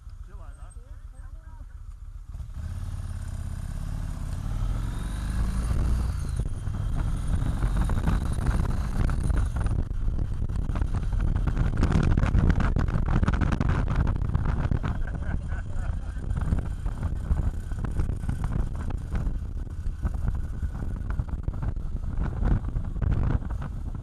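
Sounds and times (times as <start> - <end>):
motorcycle engine accelerating: 0.0 - 24.0
wind noise on microphone: 3.8 - 24.0.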